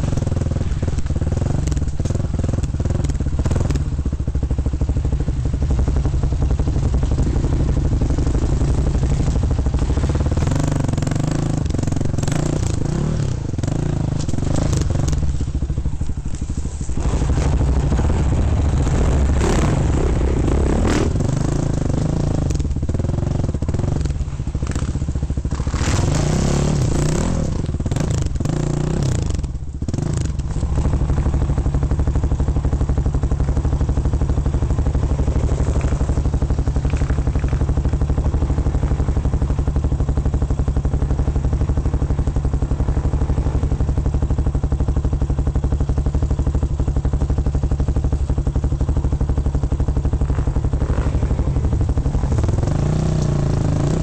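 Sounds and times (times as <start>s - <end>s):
dirt bike engine revving: 4.9s - 44.2s, 48.8s - 54.0s.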